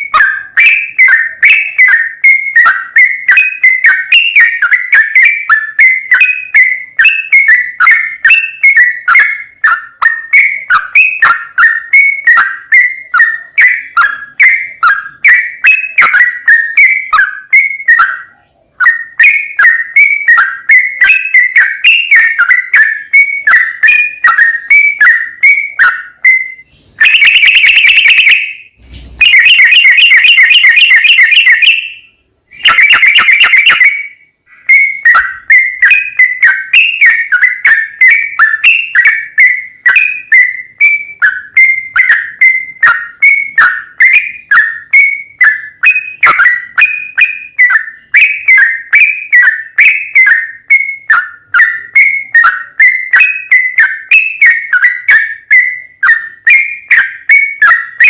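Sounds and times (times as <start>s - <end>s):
bulbul song: 0.0s - 58.0s.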